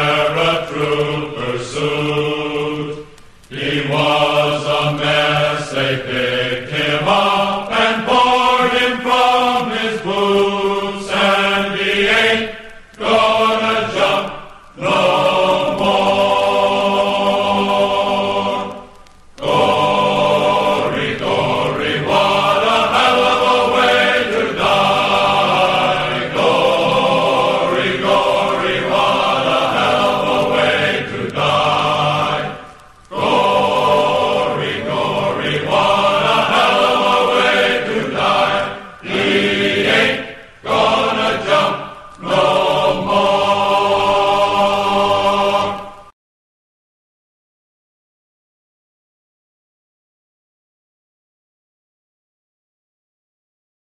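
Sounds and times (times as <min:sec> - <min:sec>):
choir singing chant-like melody: 0:00.0 - 0:46.1.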